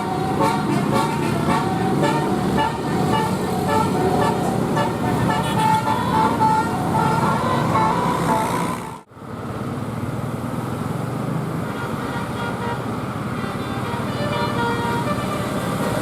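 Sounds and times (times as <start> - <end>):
bus horn playing a melody: 0.0 - 9.0, 11.7 - 16.0
engine and traffic noise: 0.0 - 16.0.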